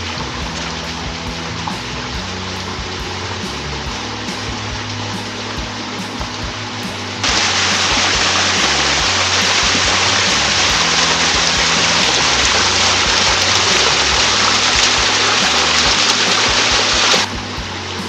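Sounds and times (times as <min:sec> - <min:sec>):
background music with low notes: 0:00.0 - 0:18.0
flowing water rushing: 0:00.0 - 0:18.0.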